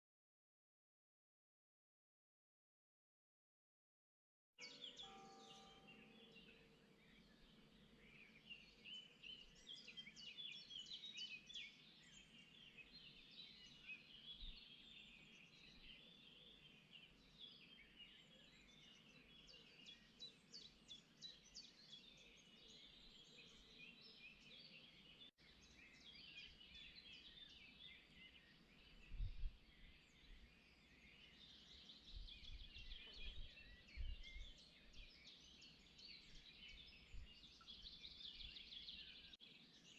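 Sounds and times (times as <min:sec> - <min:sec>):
songbirds chirping: 0:04.6 - 0:39.9.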